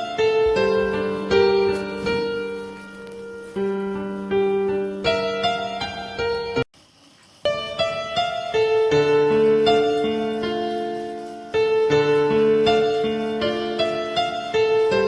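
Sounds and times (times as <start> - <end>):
piano music: 0.0 - 6.7, 7.4 - 15.0.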